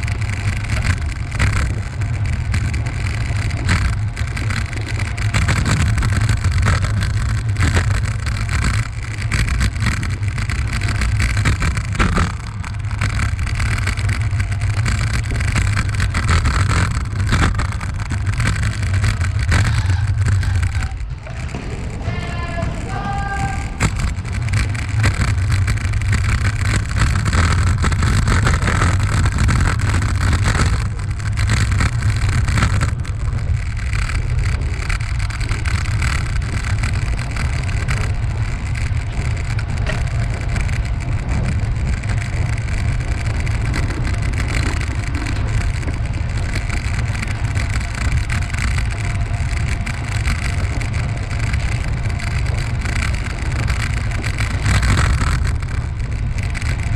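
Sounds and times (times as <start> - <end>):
low rumble of riding: 0.0 - 56.9
wind buffeting microphone: 0.0 - 56.9.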